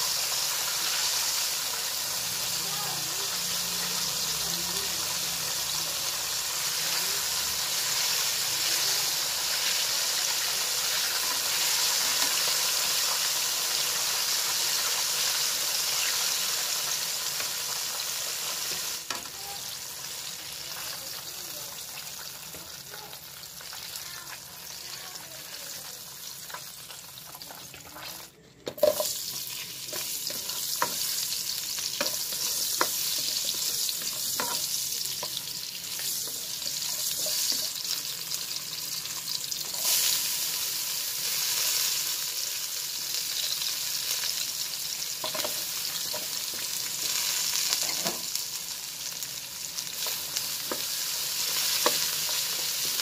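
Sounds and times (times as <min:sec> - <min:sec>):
chicken sizzling in hot oil: 0:00.0 - 0:53.0.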